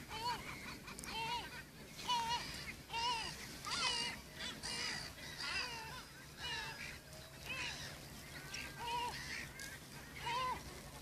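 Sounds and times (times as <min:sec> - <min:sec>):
gulls calling: 0:00.0 - 0:11.0.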